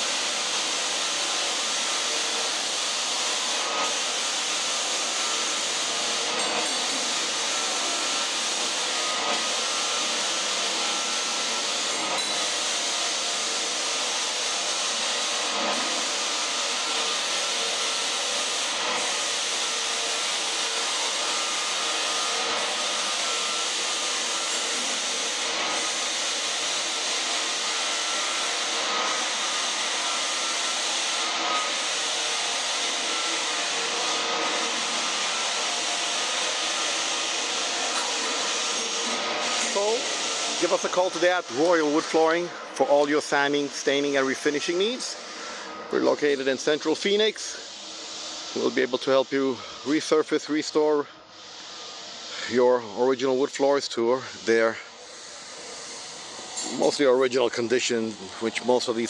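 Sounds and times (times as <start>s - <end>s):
floor sanding machine: 0.0s - 59.0s.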